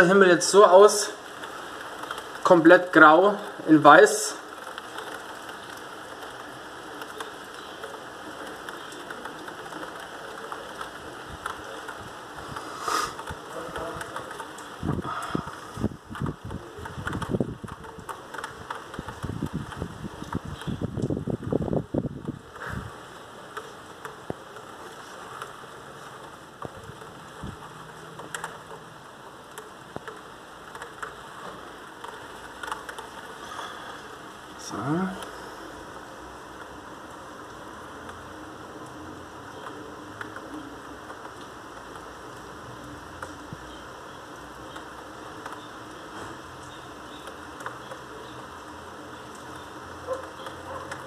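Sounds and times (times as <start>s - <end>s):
heavy rain falling: 0.0s - 51.0s.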